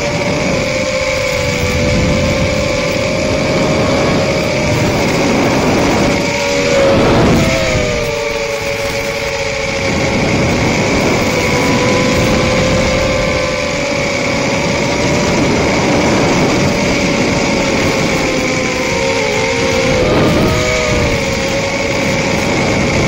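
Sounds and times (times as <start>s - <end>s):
drone propellers droning: 0.0s - 23.0s.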